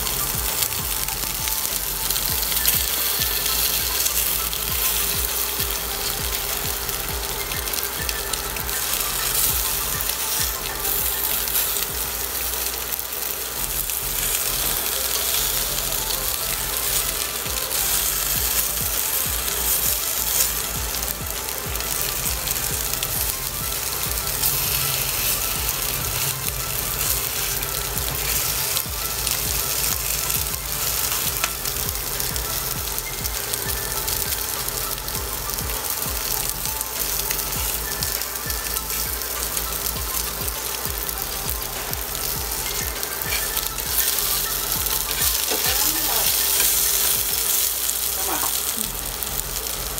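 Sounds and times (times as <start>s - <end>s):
meat sizzling in hot oil: 0.0s - 49.9s.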